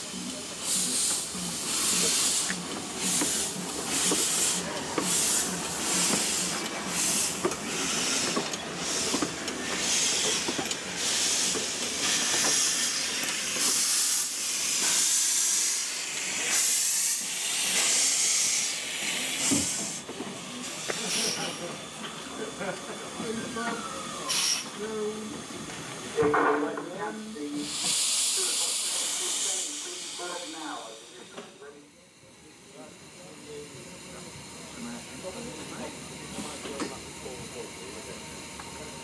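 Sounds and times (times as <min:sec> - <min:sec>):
steam locomotive hissing bursts: 0:00.0 - 0:26.2, 0:26.8 - 0:39.0.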